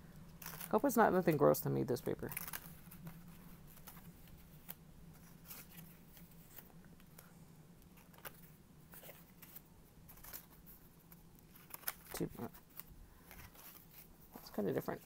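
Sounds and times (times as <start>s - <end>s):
low steady hum: 0.0s - 15.0s
paper rustling and ticking: 0.3s - 7.3s, 8.0s - 15.0s.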